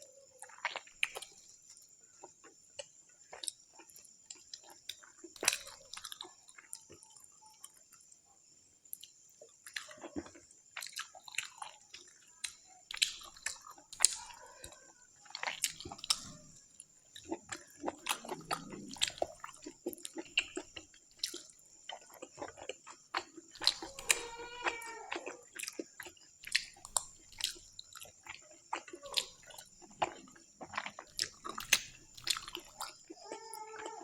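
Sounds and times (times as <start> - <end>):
person chewing and lip-smacking: 0.4 - 8.2, 8.9 - 34.0.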